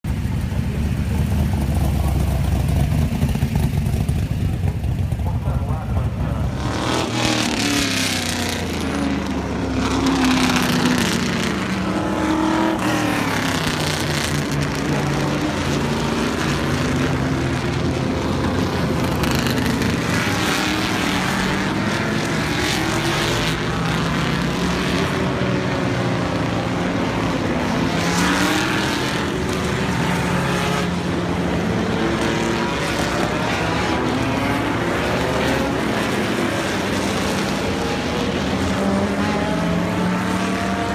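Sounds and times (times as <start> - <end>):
race cars passing: 0.1 - 40.9.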